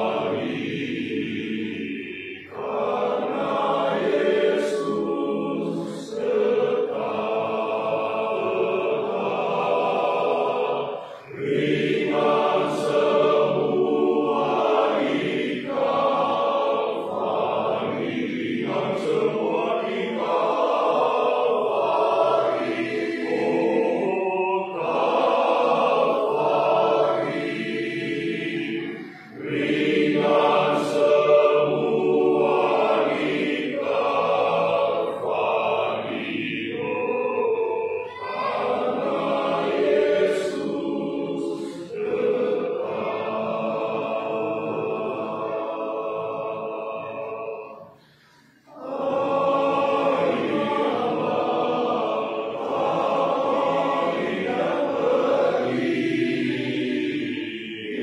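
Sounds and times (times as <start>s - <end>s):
men's choir singing a hymn: 0.0s - 58.0s.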